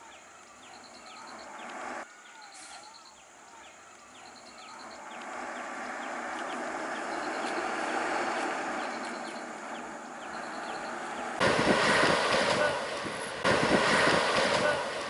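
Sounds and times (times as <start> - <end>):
diesel bus engine: 0.0 - 2.8, 3.8 - 15.0.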